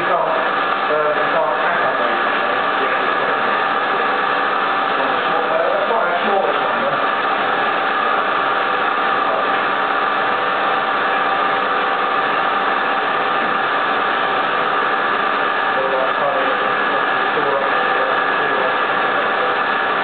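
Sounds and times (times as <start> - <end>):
milling machine hissing and whining: 0.0 - 20.0.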